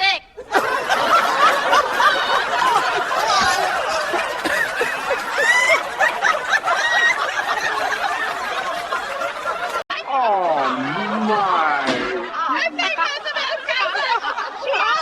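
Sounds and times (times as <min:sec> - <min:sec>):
crowd laughing: 0:00.4 - 0:15.0.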